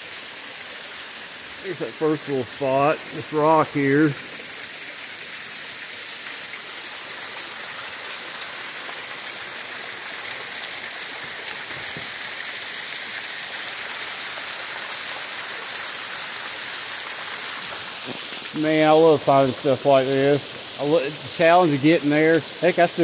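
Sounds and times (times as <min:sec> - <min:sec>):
waterfall splashing over rock: 0:00.0 - 0:23.0.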